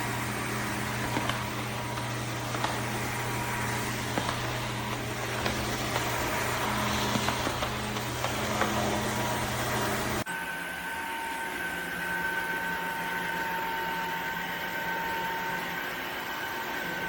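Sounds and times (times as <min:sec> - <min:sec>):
vacuum cleaner motor whirring: 0:00.0 - 0:17.0.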